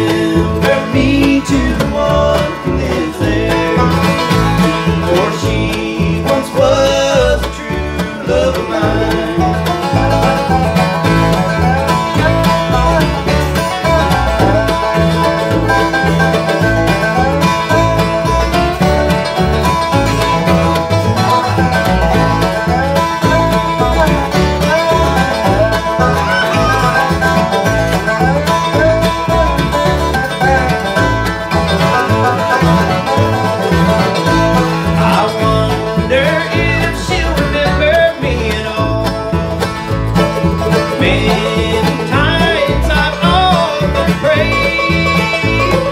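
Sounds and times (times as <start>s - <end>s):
acoustic guitar: 0.0s - 45.9s
banjo rolls: 0.0s - 45.9s
mandolin: 0.0s - 45.9s
resonator guitar: 0.0s - 45.9s
upright bass: 0.0s - 45.9s.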